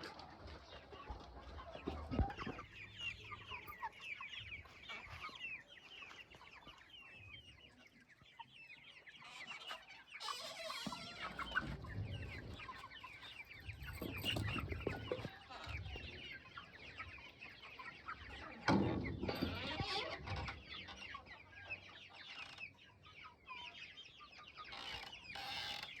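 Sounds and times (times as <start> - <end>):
chicks peeping and clucking: 0.0 - 26.0.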